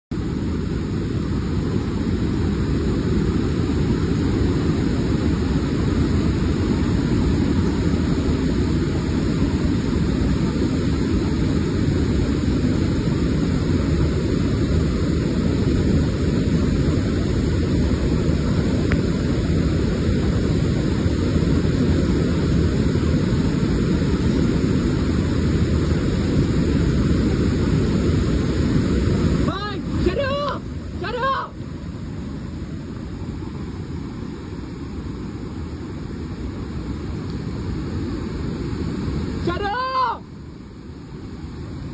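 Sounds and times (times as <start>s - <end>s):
waterfall rushing water: 0.2s - 41.9s.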